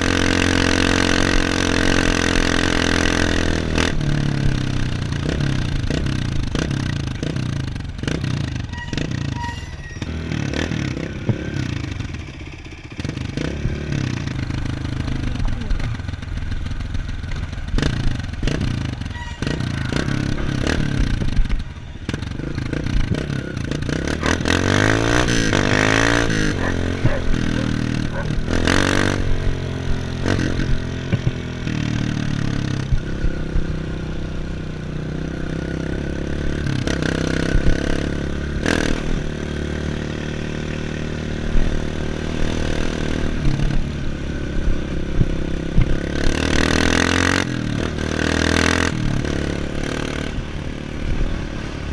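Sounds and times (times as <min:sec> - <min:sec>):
dirt bike engine revving: 0:00.0 - 0:09.4, 0:10.0 - 0:51.9.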